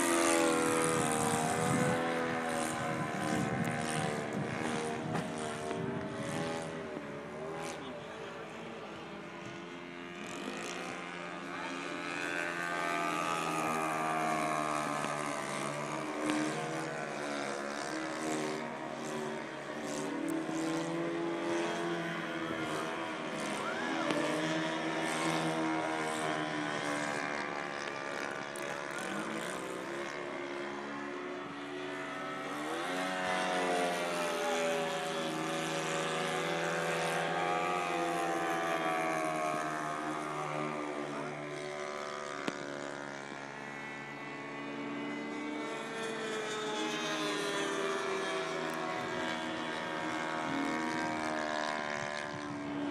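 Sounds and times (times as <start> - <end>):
model airplane engine droning: 0.0 - 52.9.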